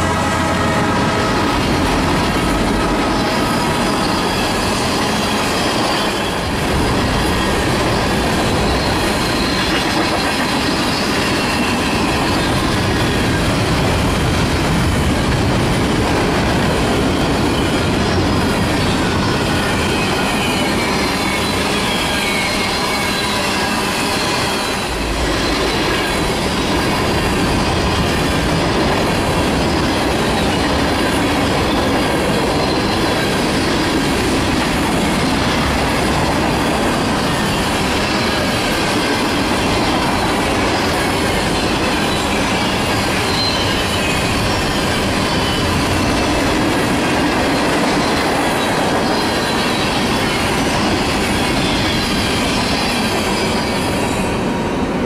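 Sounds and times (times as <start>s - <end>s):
freight train wheels rumbling: 0.0s - 55.0s
wheel squeal: 1.2s - 13.6s, 17.0s - 54.4s.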